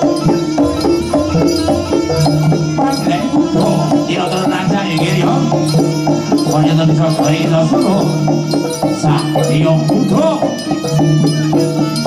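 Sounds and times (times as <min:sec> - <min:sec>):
music with drums: 0:00.0 - 0:12.0.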